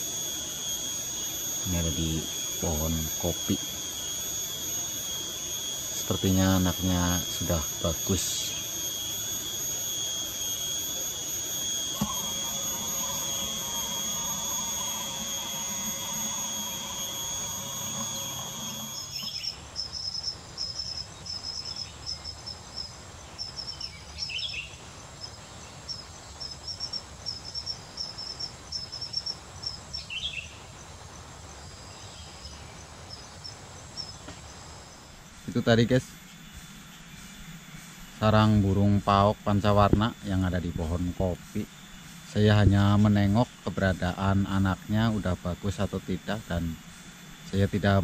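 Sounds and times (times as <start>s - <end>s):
insects buzzing drone: 0.0s - 48.0s
insects chirping: 0.0s - 48.0s.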